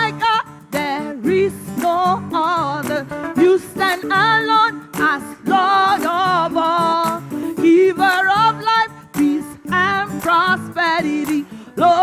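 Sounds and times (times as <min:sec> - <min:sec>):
musical accompaniment: 0:00.0 - 0:12.0
person singing praise song: 0:00.0 - 0:12.0.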